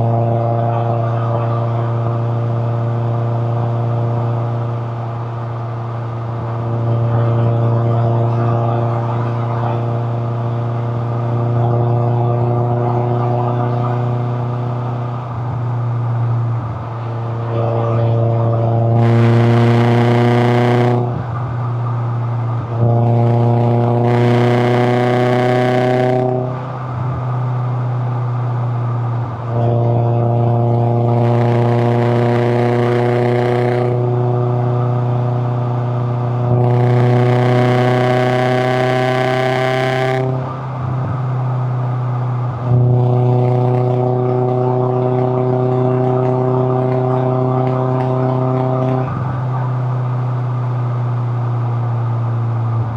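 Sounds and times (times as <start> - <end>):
car engine pulling under throttle: 0.0 - 52.9.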